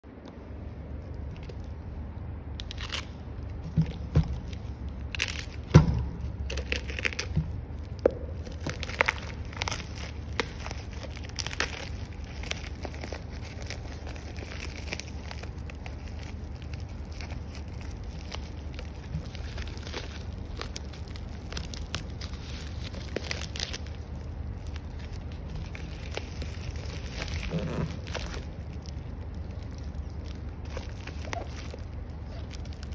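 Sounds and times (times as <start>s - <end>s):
plastic bag crinkling: 2.6s - 32.9s.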